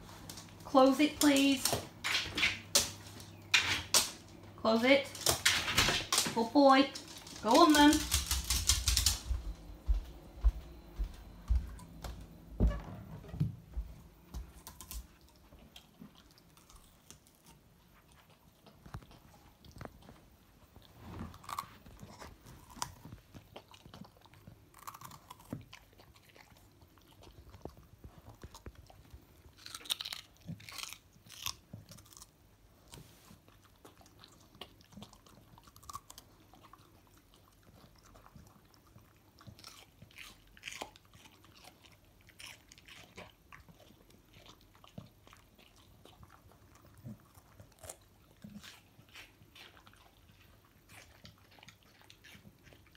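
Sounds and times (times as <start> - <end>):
dog crunching celery: 0.0 - 9.9, 14.3 - 52.9.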